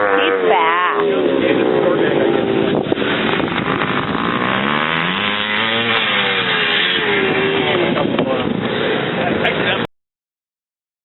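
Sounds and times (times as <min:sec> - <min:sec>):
motocross motorcycles revving: 0:00.0 - 0:09.8.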